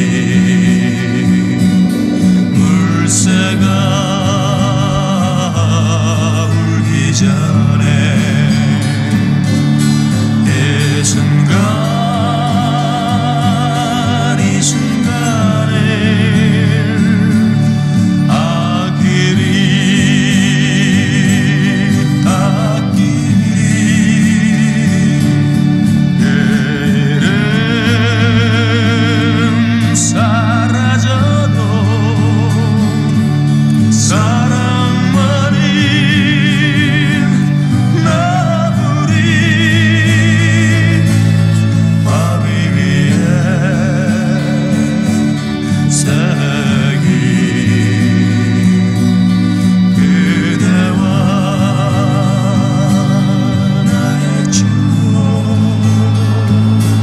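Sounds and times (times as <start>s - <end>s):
melody with vibrato: 0.0s - 57.0s
slow song with singing: 0.0s - 57.0s
sustained low chords: 0.0s - 57.0s.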